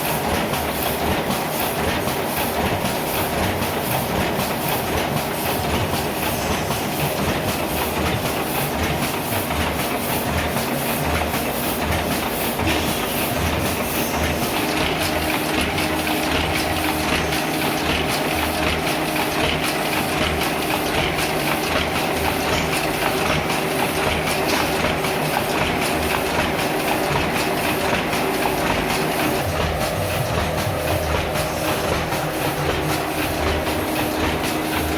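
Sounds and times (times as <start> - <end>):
printing press mechanical clatter: 0.0 - 34.9.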